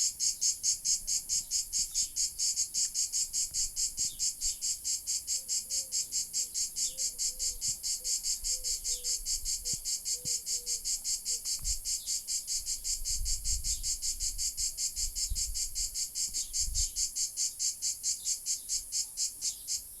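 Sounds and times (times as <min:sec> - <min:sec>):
cicada calling: 0:00.0 - 0:20.0.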